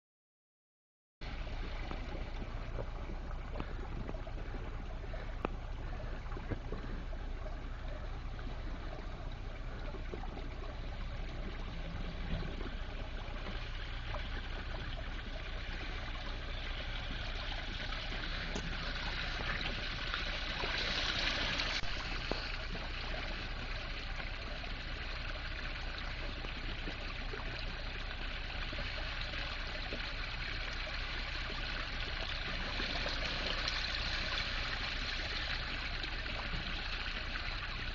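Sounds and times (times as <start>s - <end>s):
water running and trickling: 1.2s - 37.9s
water rushing: 1.2s - 37.9s.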